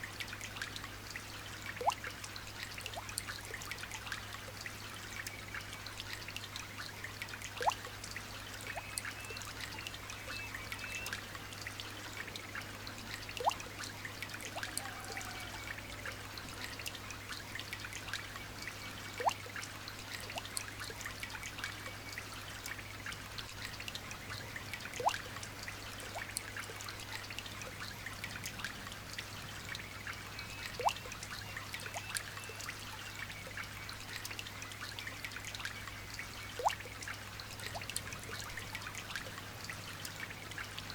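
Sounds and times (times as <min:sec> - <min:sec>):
light rain pattering: 0:00.0 - 0:40.9
water trickling: 0:00.0 - 0:40.9
falling-pitch water drip: 0:00.1 - 0:40.9.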